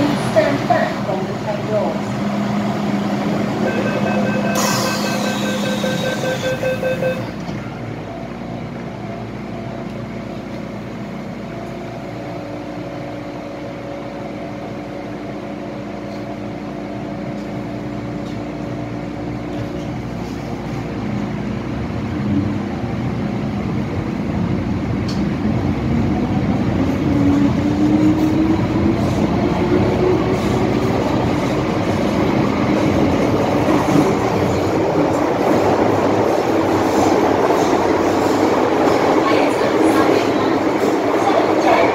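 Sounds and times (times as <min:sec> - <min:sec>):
train electrical hum: 0:00.0 - 0:41.9
train running noise: 0:00.0 - 0:41.9.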